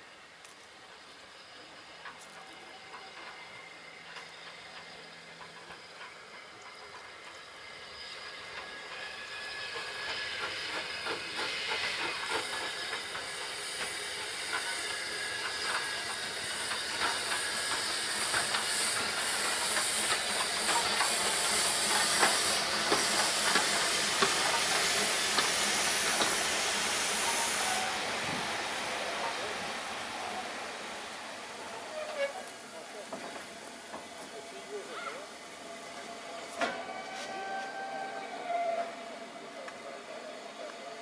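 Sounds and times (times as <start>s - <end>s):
steam hiss: 0.8s - 41.0s
steam locomotive exhaust beats: 0.9s - 41.0s.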